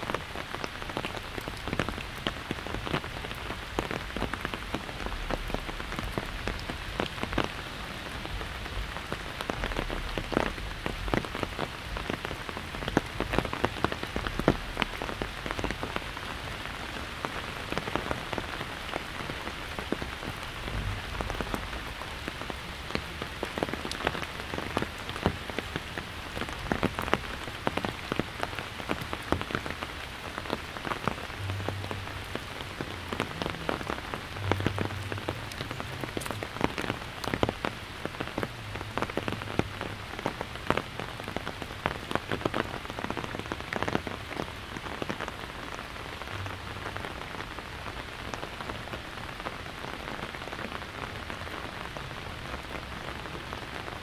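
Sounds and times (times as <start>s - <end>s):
rain pattering on an umbrella: 0.0s - 54.0s.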